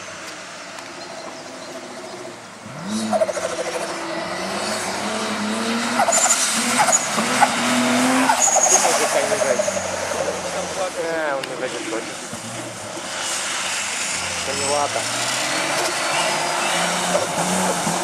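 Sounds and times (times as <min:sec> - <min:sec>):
rally car engine revving: 0:01.6 - 0:18.0.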